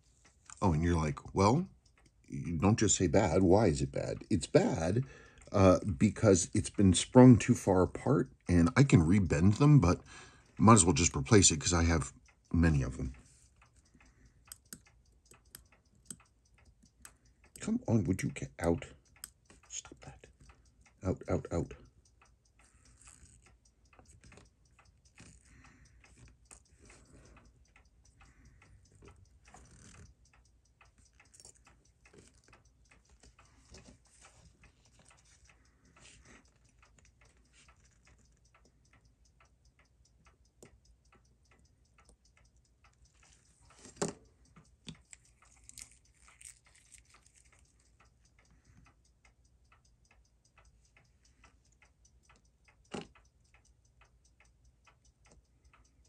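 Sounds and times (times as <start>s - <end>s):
watch ticking: 0.0s - 56.0s.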